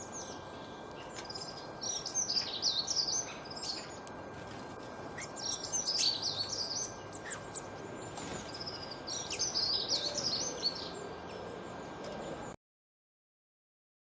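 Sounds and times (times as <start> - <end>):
songbirds chirping: 0.0 - 12.6
steady background hiss: 0.0 - 12.6.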